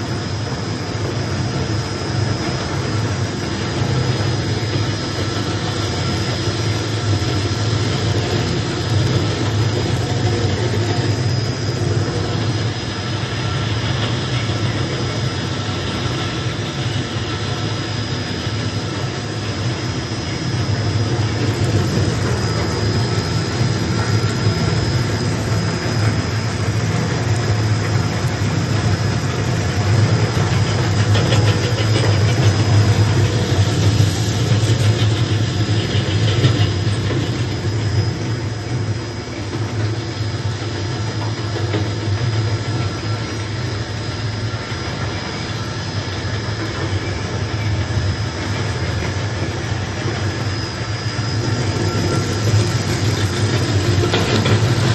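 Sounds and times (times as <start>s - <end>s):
high whine: 0.0s - 54.9s
cutter shafts rapid ticking: 0.2s - 54.9s.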